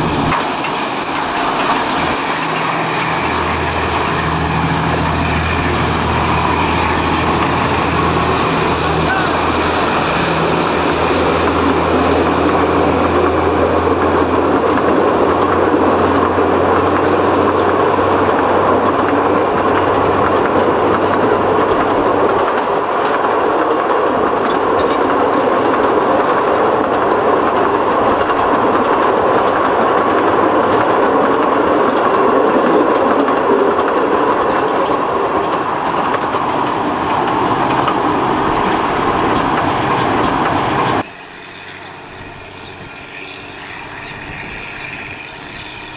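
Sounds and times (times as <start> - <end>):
train wheels rumbling over rails: 0.0 - 45.9.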